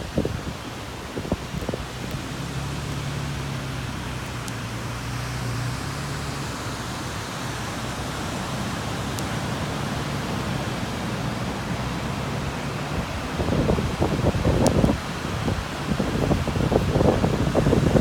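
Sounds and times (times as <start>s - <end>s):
ocean surf breaking: 0.0s - 18.0s
wind on microphone: 0.0s - 18.0s.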